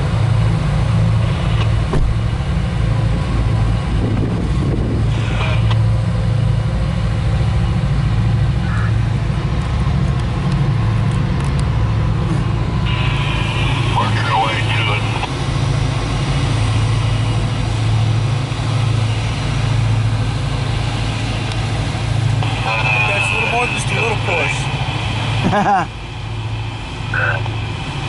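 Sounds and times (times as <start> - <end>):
diesel locomotive engines droning: 0.0 - 28.0.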